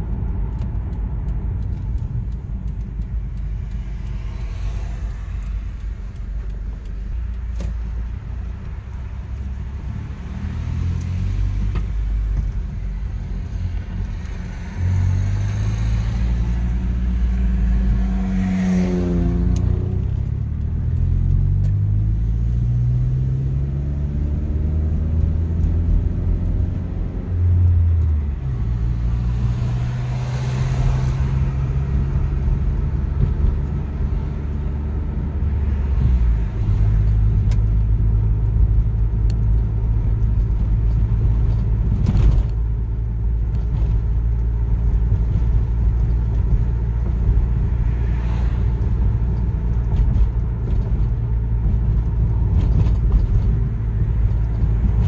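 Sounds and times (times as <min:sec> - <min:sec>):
car engine hum: 0:00.0 - 0:55.0.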